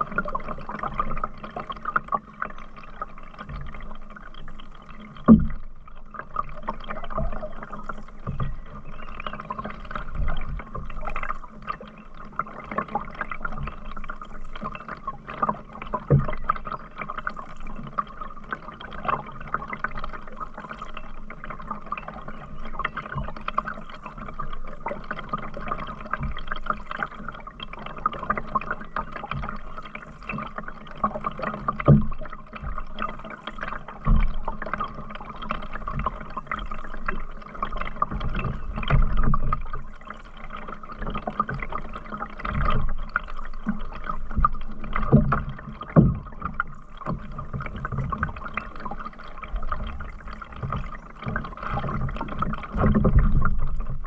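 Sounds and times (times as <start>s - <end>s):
water dripping off paddle: 0.0s - 54.0s
water gurgling along hull: 0.0s - 54.0s.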